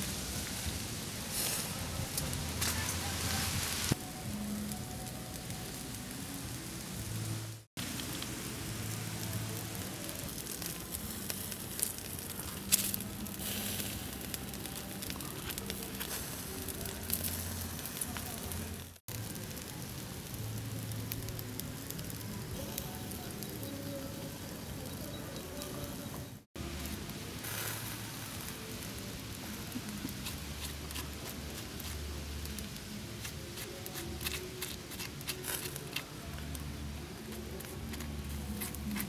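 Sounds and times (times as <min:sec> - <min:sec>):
duck sizzling and crackling: 0:00.0 - 0:04.0, 0:05.2 - 0:24.1, 0:26.6 - 0:39.0.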